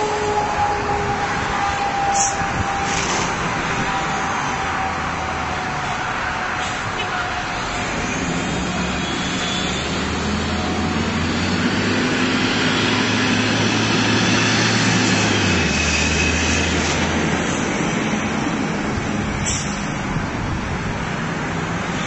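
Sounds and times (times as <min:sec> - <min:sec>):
bus engine hum passing: 0:00.0 - 0:22.0
road traffic: 0:00.0 - 0:22.0.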